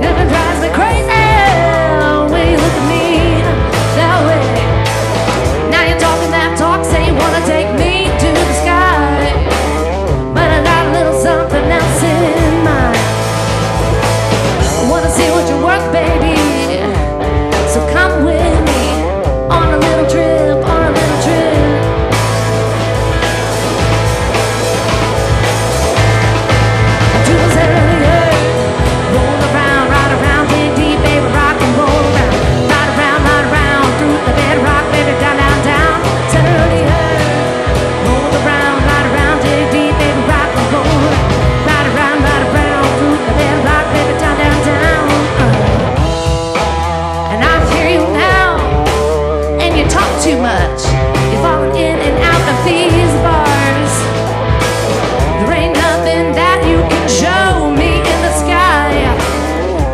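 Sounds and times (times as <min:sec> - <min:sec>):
woman singing: 0:00.0 - 0:13.2, 0:14.6 - 0:22.1, 0:27.1 - 0:54.3, 0:55.2 - 0:59.9
electric guitar: 0:00.0 - 0:59.9
rock band playing live: 0:00.0 - 0:59.9.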